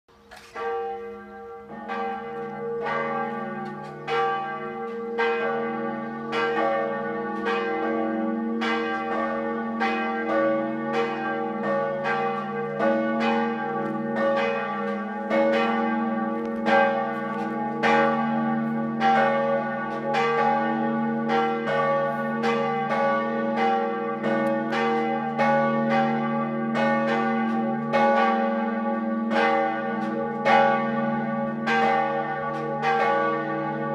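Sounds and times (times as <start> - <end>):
church bells ringing: 0.2 - 33.9.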